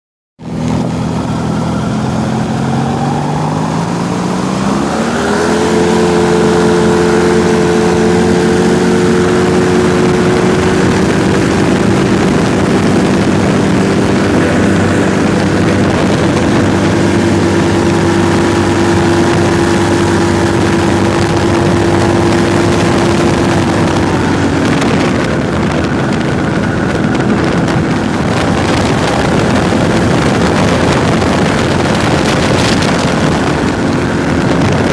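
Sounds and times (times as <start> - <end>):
ultralight engine and propeller: 0.4 - 34.9
wind rushing past microphone: 0.4 - 34.9.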